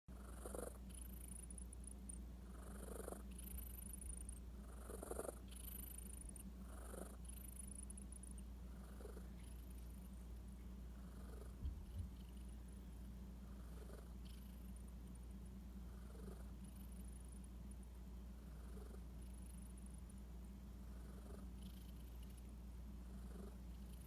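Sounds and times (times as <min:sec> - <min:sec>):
steady low rumble: 0:00.8 - 0:24.0.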